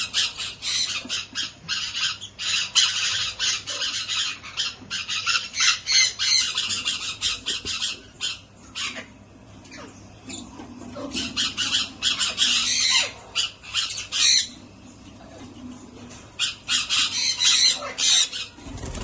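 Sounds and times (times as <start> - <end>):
baby parrots squawking: 0.0 - 14.7, 16.4 - 19.0.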